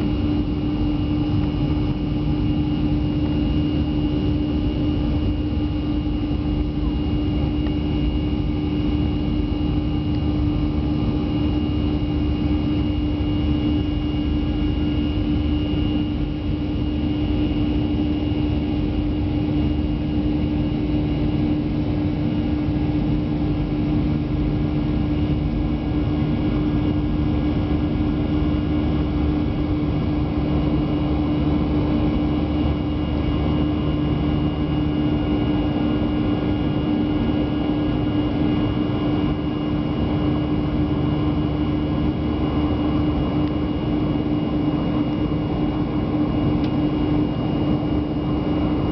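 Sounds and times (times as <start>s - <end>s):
airliner cabin engine drone: 0.0s - 48.9s
constant low hum: 0.0s - 48.9s.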